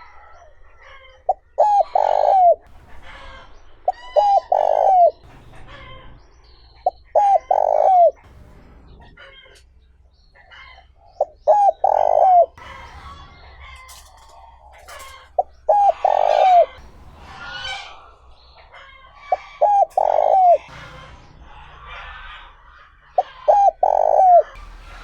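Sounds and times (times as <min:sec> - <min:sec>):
dove cooing: 0:00.0 - 0:05.9, 0:06.8 - 0:08.3, 0:10.4 - 0:14.0, 0:14.7 - 0:24.6
small birds chirping: 0:00.0 - 0:25.0.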